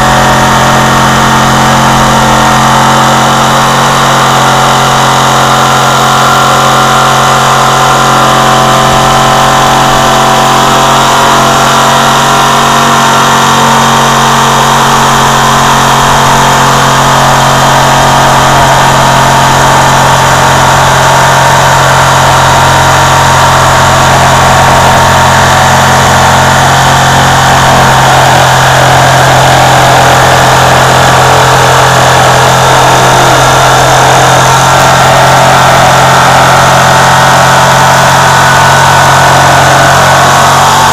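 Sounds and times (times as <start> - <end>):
power tool motor running: 0.0 - 40.9.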